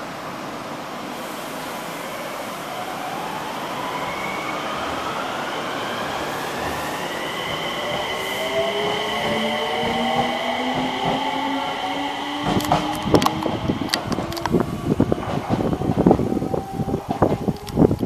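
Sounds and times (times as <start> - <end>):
train running noise: 0.0 - 18.0
electric train motor whine rising: 2.6 - 17.8.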